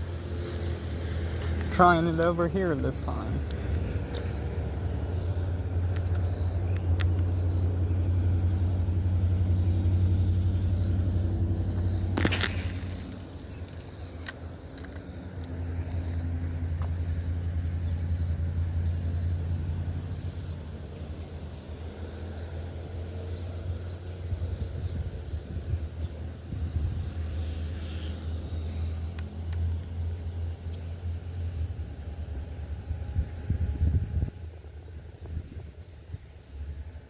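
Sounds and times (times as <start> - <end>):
low motor drone: 0.0 - 37.0.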